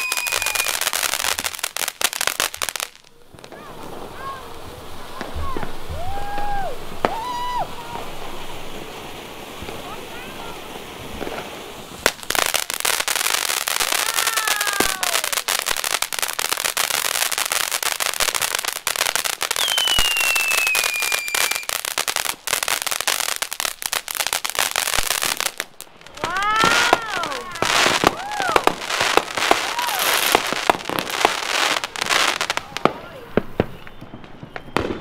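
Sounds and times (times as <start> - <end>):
falling firework whistle: 0.0 - 1.5, 5.1 - 8.9, 11.2 - 23.7, 24.7 - 35.0
firework crackling pops: 0.0 - 35.0.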